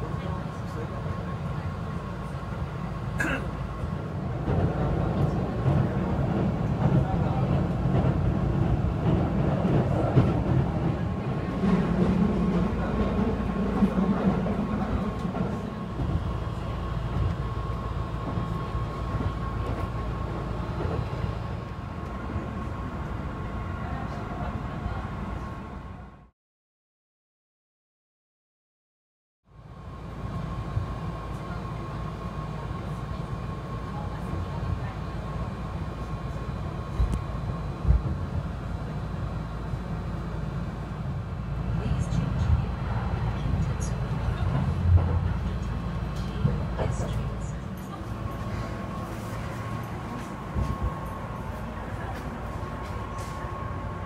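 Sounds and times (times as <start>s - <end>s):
train wheels rumbling: 0.0s - 26.0s, 30.1s - 54.0s.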